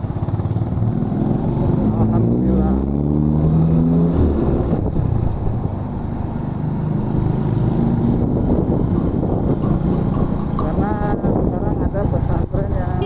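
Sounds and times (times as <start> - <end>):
motorcycle engine rumble: 0.0 - 3.0, 3.7 - 13.0
dense road noise: 0.0 - 13.0.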